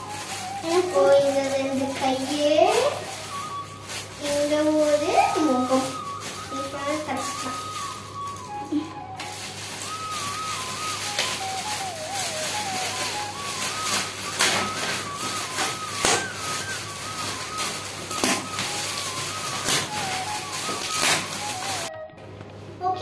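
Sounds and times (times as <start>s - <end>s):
foil gift wrap crinkling and tearing: 0.0s - 21.9s
simple background tune: 0.0s - 23.0s.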